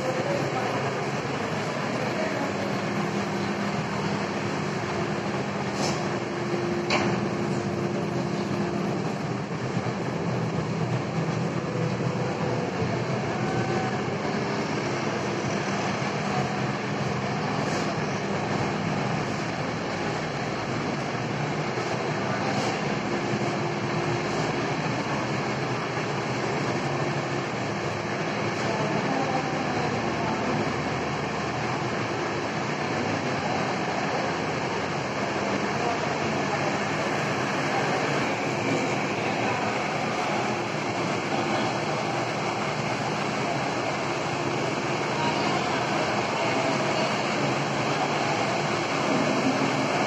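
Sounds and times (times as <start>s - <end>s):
faint voices: 0.0s - 50.0s
steady rumbling noise: 0.0s - 50.0s.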